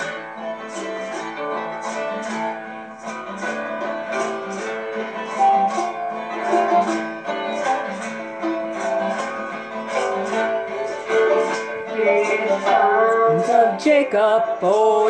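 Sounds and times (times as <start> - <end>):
acoustic guitars strumming: 0.0 - 15.0
plucked string melody: 0.0 - 15.0.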